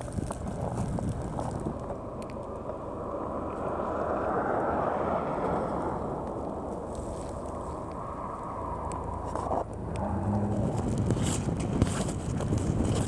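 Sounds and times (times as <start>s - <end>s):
vehicles driving on snow: 0.0s - 13.0s
wind blowing: 0.0s - 13.0s.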